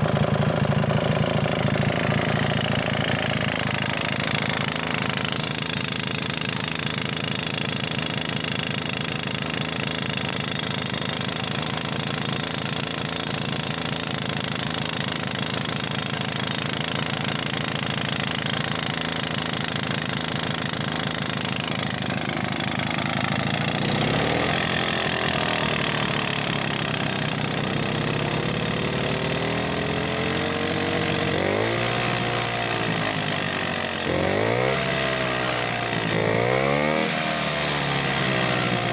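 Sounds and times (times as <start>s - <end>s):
two-stroke engine idling and revving: 0.0s - 38.9s.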